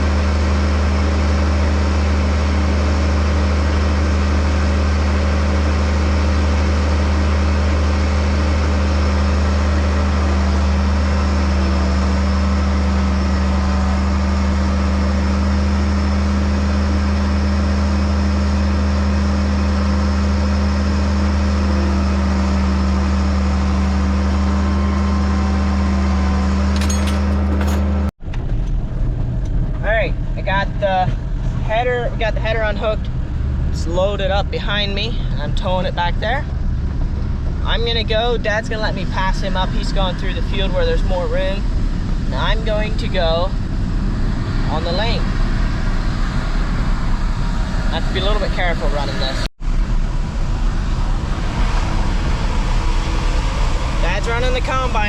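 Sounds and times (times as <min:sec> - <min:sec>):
farm machinery engine droning: 0:00.0 - 0:55.0.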